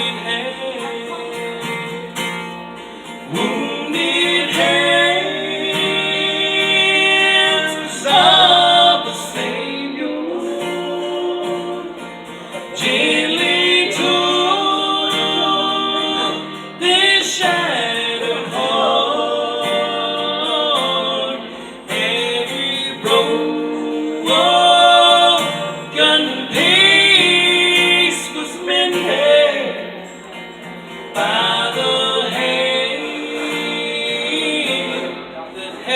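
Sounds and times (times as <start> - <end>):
voices singing gospel: 0.0 - 2.2, 2.8 - 35.9
acoustic guitar: 0.0 - 35.9.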